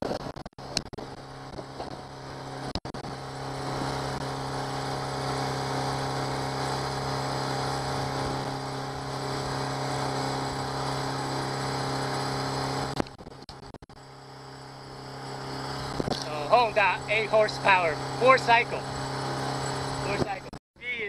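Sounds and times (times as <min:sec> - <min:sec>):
outboard motor humming: 0:00.0 - 0:20.9.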